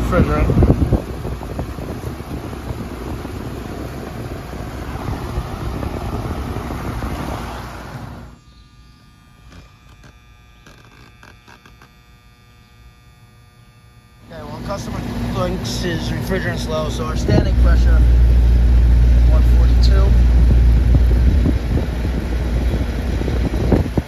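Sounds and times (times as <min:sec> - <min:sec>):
condenser fan rushing: 0:00.0 - 0:10.6, 0:13.7 - 0:24.0
electrical hum: 0:00.0 - 0:24.0.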